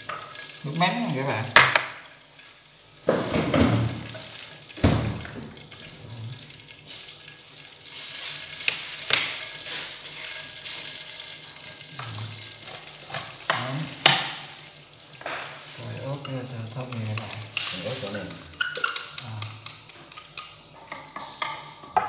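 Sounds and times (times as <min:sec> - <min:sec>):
sauce sizzling in frying pan: 0:00.0 - 0:22.0.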